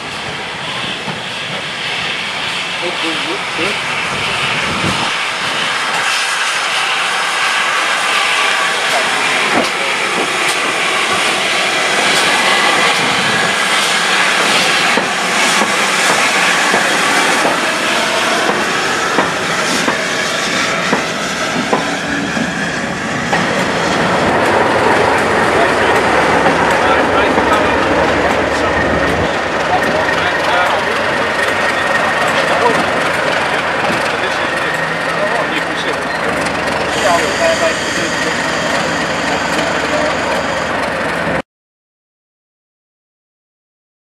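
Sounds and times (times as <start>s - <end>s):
diesel locomotive passing: 0.0s - 41.4s
steam hiss: 0.2s - 27.8s, 30.0s - 40.4s.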